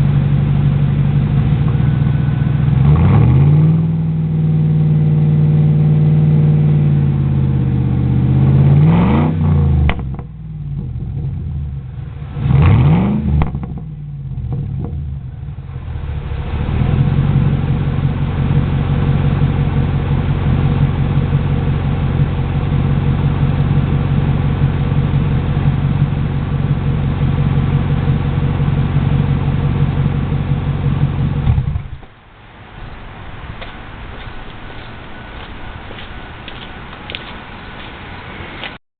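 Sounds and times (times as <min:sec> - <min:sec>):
loud engine exhaust revving: 0:00.0 - 0:32.0.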